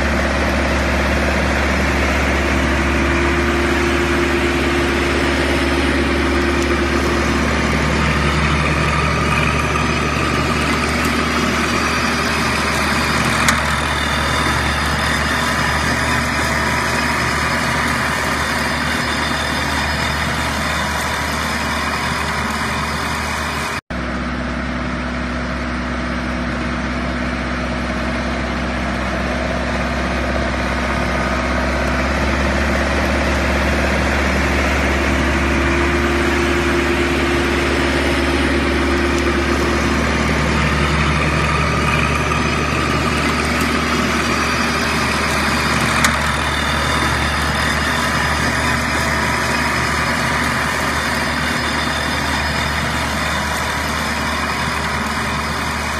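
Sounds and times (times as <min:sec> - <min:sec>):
flail mower chopping grass: 0:00.0 - 0:23.8, 0:29.2 - 0:55.9
diesel tractor engine running: 0:00.0 - 0:55.9.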